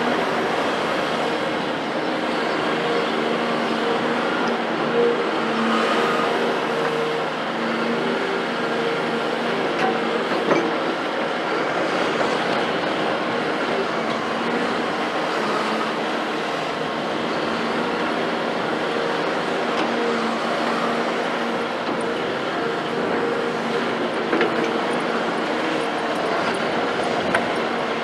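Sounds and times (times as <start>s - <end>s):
distant construction machinery: 0.0s - 28.0s.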